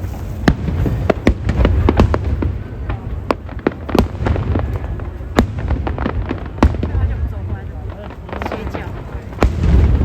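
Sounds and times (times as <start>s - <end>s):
fireworks bangs and crackling pops: 0.0s - 10.0s.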